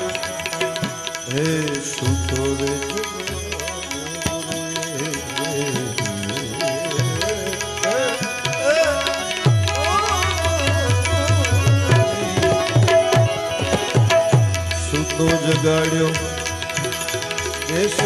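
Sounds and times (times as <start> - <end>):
tabla playing: 0.0 - 18.0.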